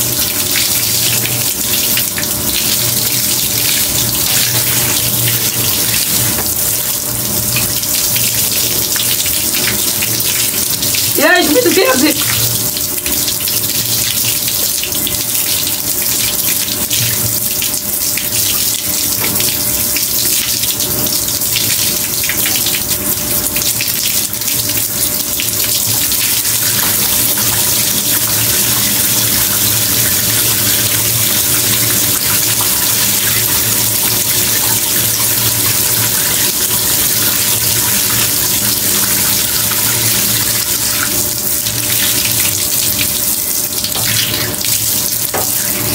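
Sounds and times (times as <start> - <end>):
shower spraying water: 0.0 - 45.9.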